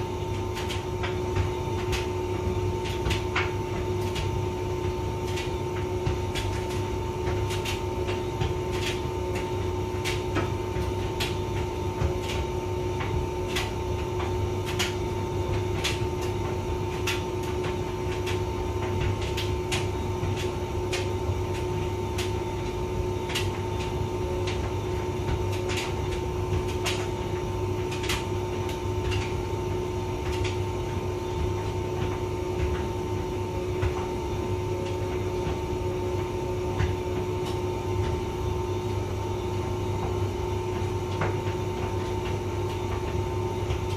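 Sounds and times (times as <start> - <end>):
tumble dryer motor and drum hum: 0.0 - 43.9.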